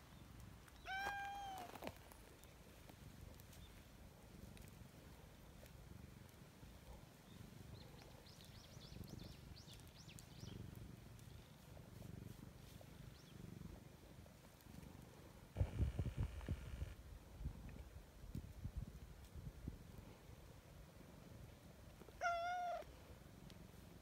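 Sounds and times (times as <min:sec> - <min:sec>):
cat purring: 0:02.3 - 0:17.8, 0:19.6 - 0:24.0.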